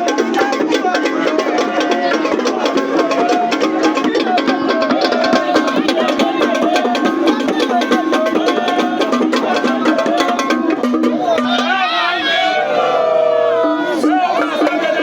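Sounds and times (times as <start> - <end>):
music with fast percussion: 0.0 - 12.5, 13.9 - 15.0.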